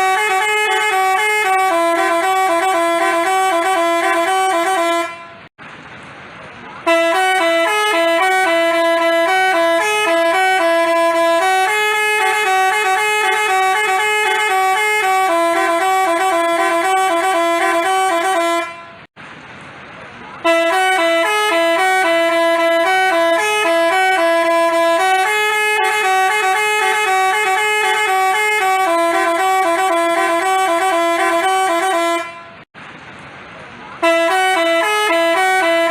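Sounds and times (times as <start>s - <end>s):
bus horn playing a melody: 0.0s - 5.5s, 6.8s - 19.1s, 20.4s - 32.7s, 34.0s - 35.9s.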